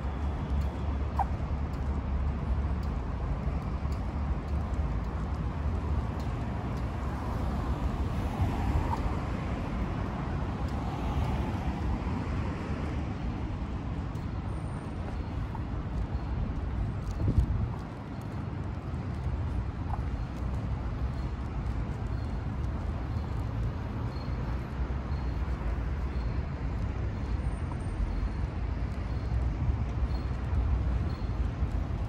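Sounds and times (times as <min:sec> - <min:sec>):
street traffic hum: 0:00.0 - 0:32.0.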